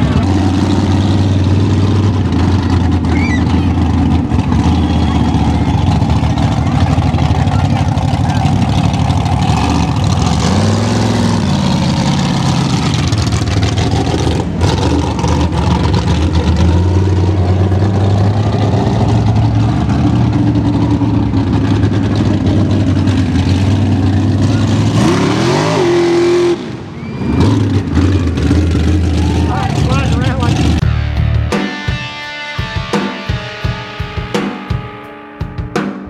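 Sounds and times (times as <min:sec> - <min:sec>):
buggy engine revving: 0:00.0 - 0:31.5.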